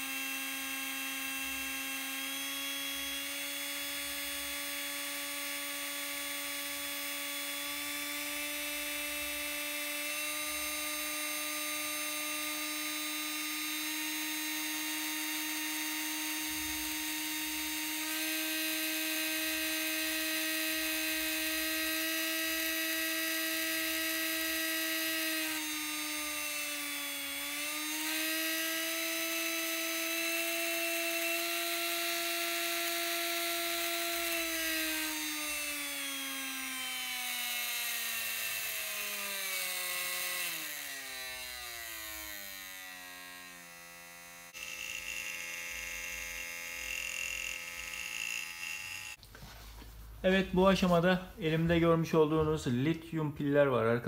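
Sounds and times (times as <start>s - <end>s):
small electric motor whining: 0.0s - 49.2s.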